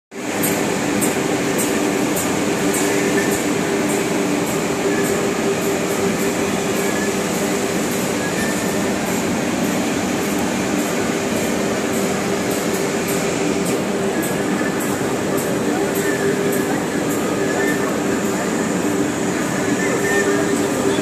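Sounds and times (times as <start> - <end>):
router machines droning: 0.2 - 21.0
steady hums: 0.2 - 21.0
hall noise: 0.6 - 21.0.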